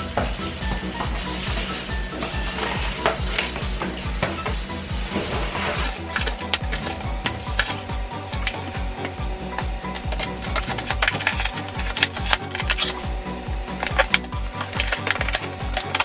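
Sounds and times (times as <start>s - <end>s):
hand tool scraping tile floor: 0.1s - 16.0s.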